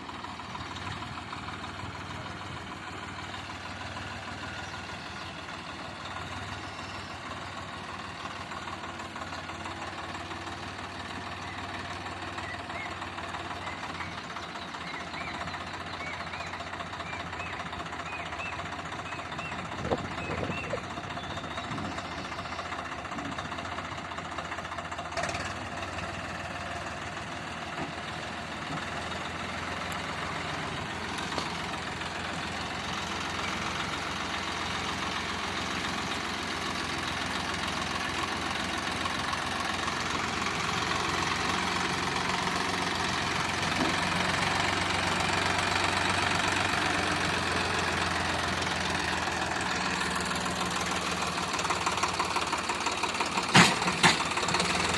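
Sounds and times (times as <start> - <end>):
tractor diesel engine chugging: 0.0 - 54.9.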